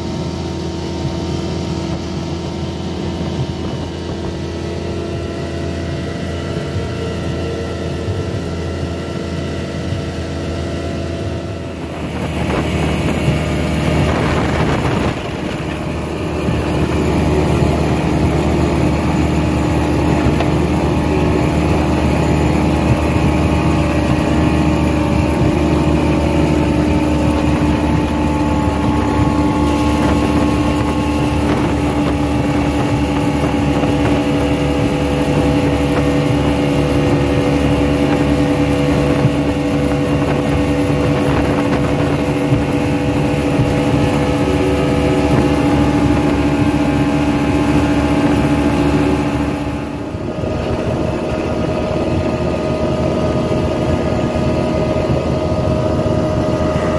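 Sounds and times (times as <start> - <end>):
outboard engine drone: 0.0 - 56.9.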